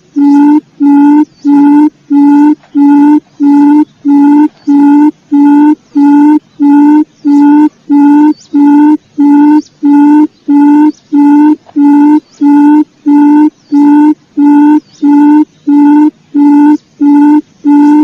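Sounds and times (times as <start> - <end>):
buzzy hooting quail call: 0.0 - 18.0.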